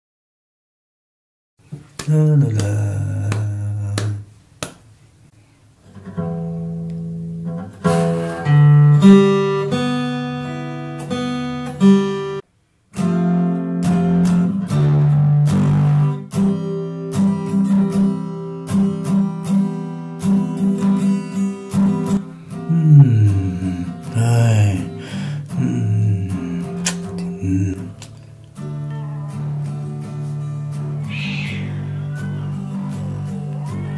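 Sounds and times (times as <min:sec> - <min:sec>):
acoustic guitar music: 0:01.8 - 0:04.3, 0:05.8 - 0:33.9.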